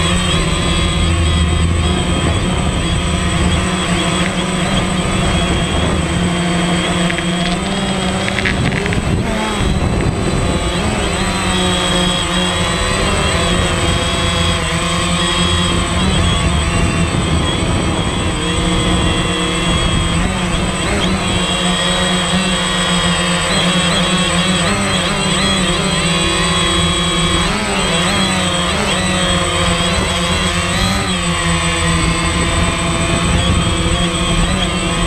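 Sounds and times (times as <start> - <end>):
drone propellers buzzing: 0.0 - 35.0
thin high whine: 0.0 - 35.0.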